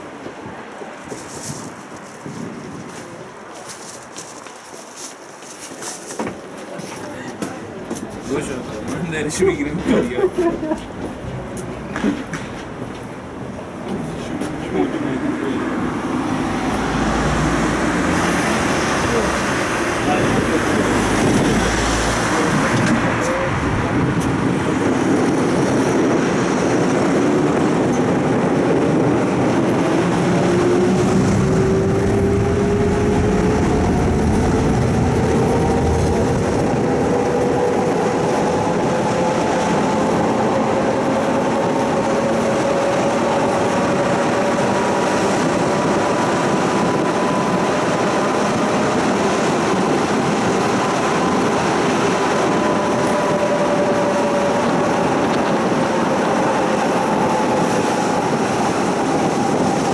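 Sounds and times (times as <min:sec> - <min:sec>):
tram rolling noise: 0:00.0 - 0:59.9.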